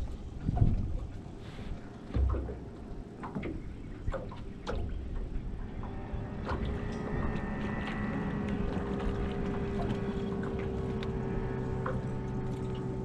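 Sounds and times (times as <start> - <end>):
motor hum: 0.0 - 13.0
water sloshing against hull: 0.0 - 13.0.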